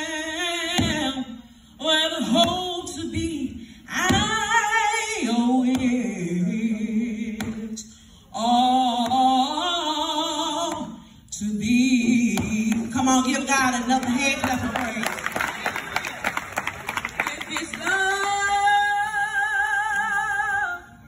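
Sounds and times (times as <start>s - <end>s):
woman singing gospel solo: 0.0s - 15.1s, 17.2s - 21.0s.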